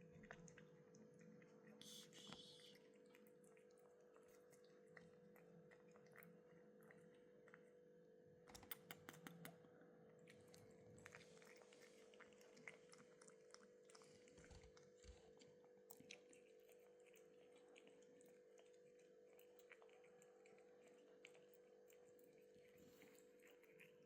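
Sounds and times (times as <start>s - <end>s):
cat chewing and lip-smacking: 0.0s - 24.0s
faint steady hum: 0.0s - 24.0s.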